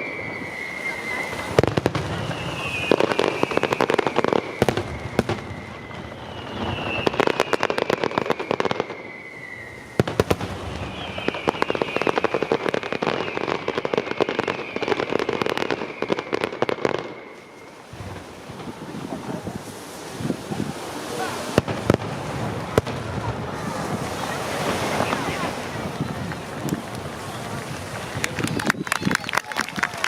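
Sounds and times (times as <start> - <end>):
falling firework whistles: 0.0 - 30.0
fireworks crackling and popping: 0.0 - 30.0.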